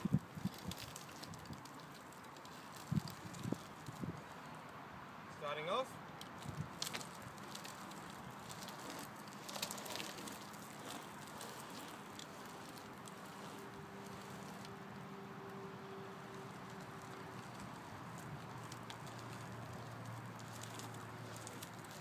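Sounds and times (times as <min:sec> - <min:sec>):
scooter wheels clicking and rattling: 0:00.0 - 0:04.7, 0:06.1 - 0:22.0
scooter rolling on asphalt: 0:00.0 - 0:22.0.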